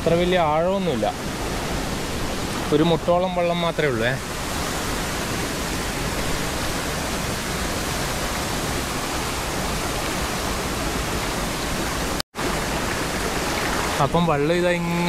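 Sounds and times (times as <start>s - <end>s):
stream rushing at waterfall: 0.0s - 15.0s.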